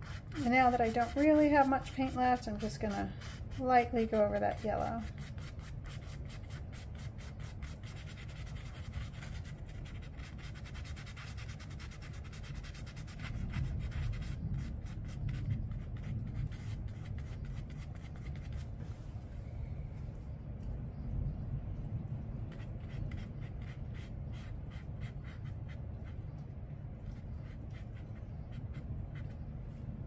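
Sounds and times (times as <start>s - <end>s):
brush scratching on paper: 0.0s - 18.8s, 22.5s - 26.4s, 27.0s - 29.9s.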